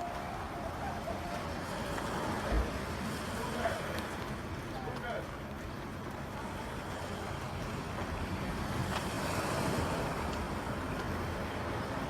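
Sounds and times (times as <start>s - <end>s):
outdoor street noise: 0.0s - 12.0s
wind rumbling on microphone: 0.0s - 12.0s.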